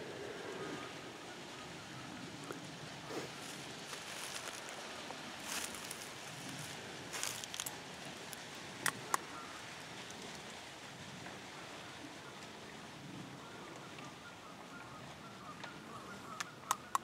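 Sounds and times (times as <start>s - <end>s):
rustling in dry leaves: 0.0s - 14.3s
low woodland hiss: 0.0s - 16.8s.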